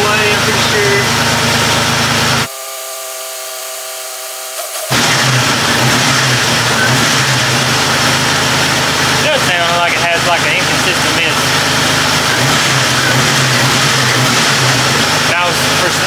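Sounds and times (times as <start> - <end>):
car engine idling: 0.0 - 2.5, 4.6 - 16.0.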